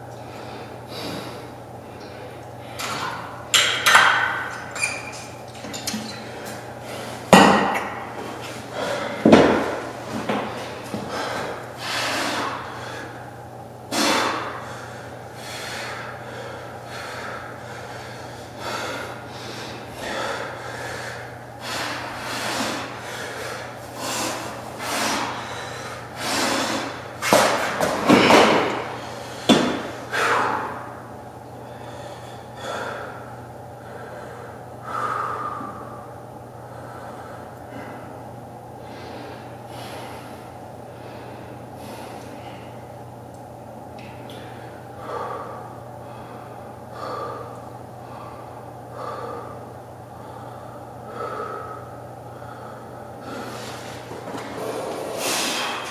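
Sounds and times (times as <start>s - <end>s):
man breathing hard: 0.0s - 3.5s, 6.3s - 43.2s, 44.2s - 55.9s.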